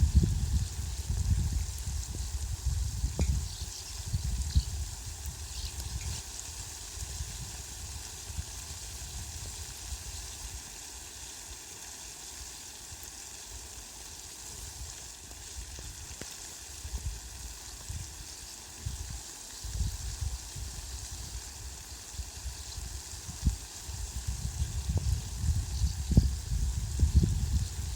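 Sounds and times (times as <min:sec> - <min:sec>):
heavy rain on leaves: 0:00.0 - 0:27.9.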